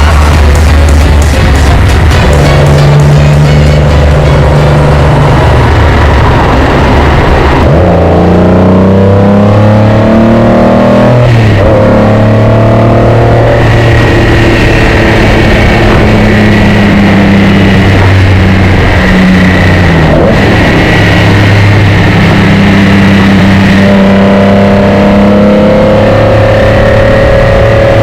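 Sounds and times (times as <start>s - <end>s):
car engine running loud: 0.0s - 28.0s.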